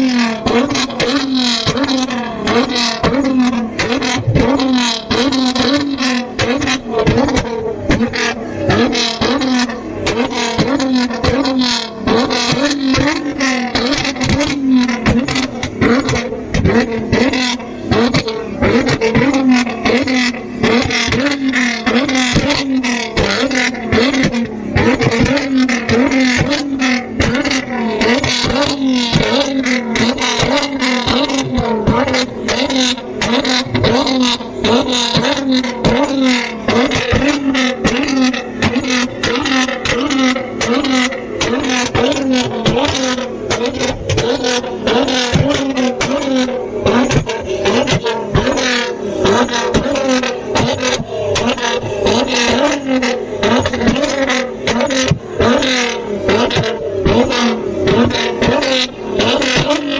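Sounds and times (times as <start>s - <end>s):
car engine revving in blips: 0.0s - 59.9s.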